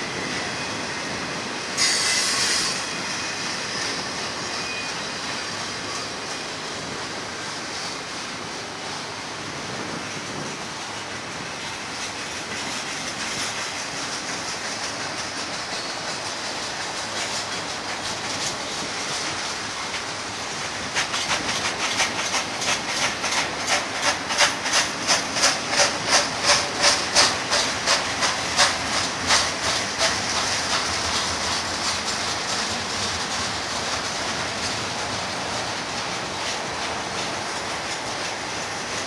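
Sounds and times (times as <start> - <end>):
clickety-clack of train wheels: 0.0 - 39.0
train wheels on rails: 0.0 - 39.0.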